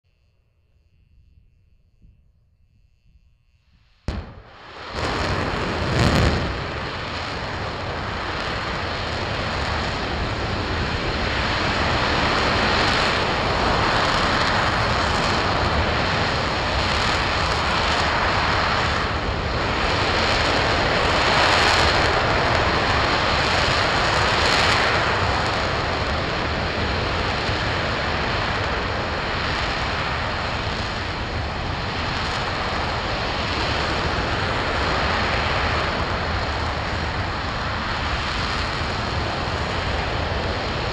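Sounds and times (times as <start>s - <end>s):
rocket engine roaring: 3.7s - 40.9s.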